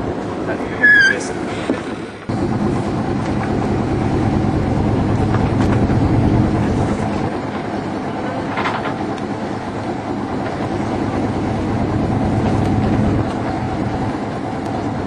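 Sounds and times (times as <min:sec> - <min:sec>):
low rumble below deck: 0:00.0 - 0:15.0.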